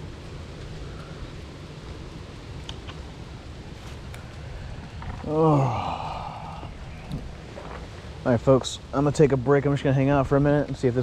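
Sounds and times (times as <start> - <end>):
rain hissing: 0.0 - 11.0
wind rumbling on microphone: 0.0 - 11.0.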